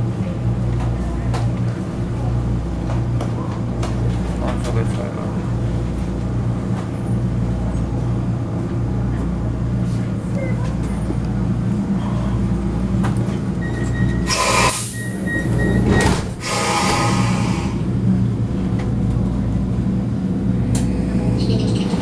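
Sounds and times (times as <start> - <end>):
metro car rumbling: 0.0 - 22.0.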